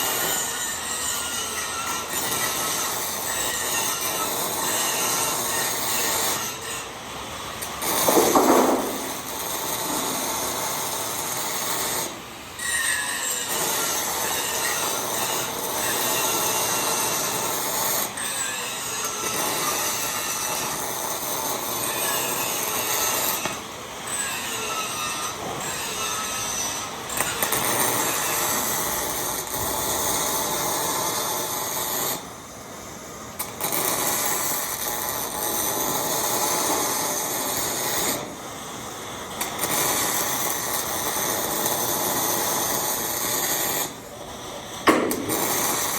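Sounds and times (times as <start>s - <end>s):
welding arc crackling: 0.0s - 6.6s, 7.6s - 12.3s, 13.2s - 24.3s, 24.9s - 45.9s.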